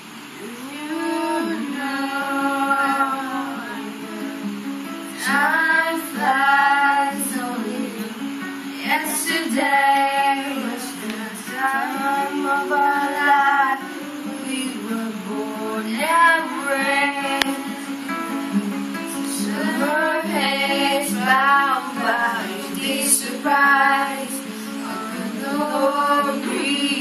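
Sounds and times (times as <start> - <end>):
acoustic guitar: 0.0 - 27.0
girls singing: 0.3 - 27.0.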